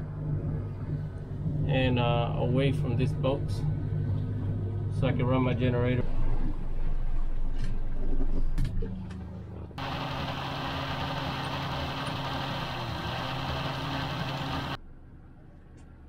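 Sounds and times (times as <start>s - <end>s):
boat engine humming: 0.0s - 8.0s, 9.0s - 14.8s.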